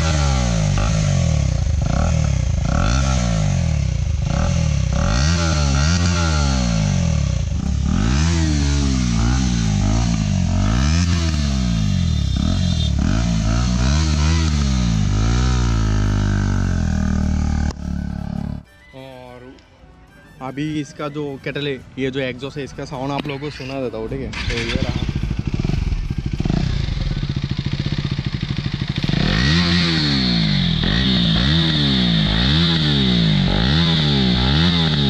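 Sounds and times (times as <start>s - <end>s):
motorcycle engine revving: 0.0s - 18.6s, 24.2s - 35.0s.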